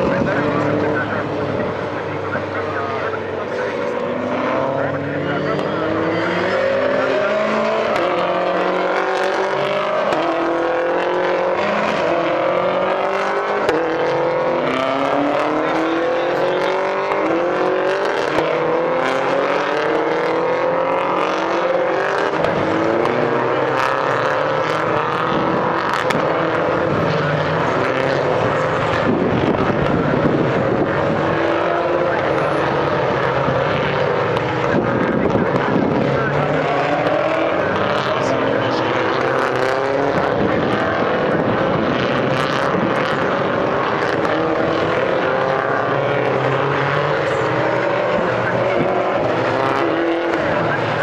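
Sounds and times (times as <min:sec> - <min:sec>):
race cars passing: 0:00.0 - 0:51.0.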